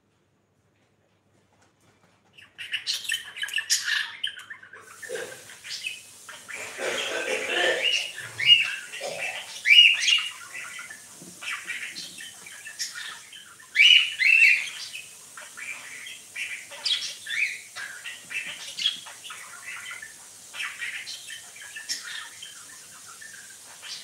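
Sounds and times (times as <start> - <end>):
cockatiel chirps and squawks: 2.4 - 24.0.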